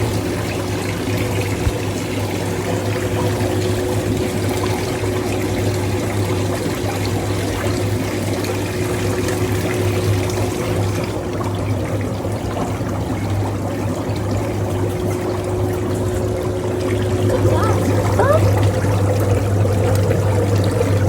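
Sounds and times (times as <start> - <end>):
low pump hum: 0.0 - 21.0
water bubbling and churning: 0.0 - 21.0.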